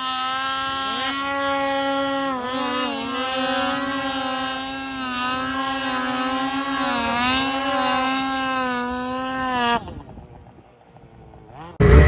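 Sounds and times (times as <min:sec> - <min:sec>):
snowmobile engine at high revs: 0:00.0 - 0:12.0.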